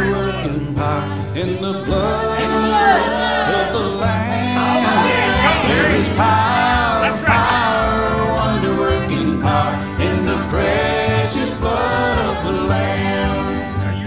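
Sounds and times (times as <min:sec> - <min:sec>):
bass notes: 0:00.0 - 0:14.0
person singing: 0:00.0 - 0:14.0
instrumental accompaniment: 0:00.2 - 0:14.0.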